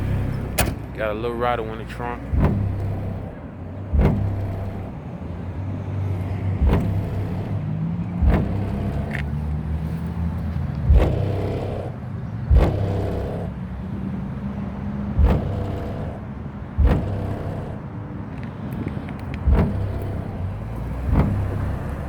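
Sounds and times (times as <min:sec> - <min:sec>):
subwoofers playing bass-heavy beat: 0:00.0 - 0:05.1, 0:05.8 - 0:13.8, 0:15.0 - 0:22.0
car trunk rattling: 0:00.0 - 0:22.0.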